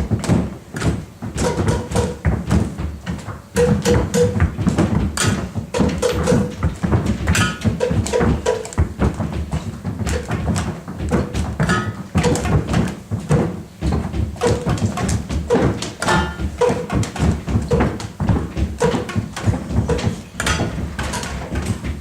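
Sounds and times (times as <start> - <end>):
feet stamping and tapping on floor: 0.0 - 22.0.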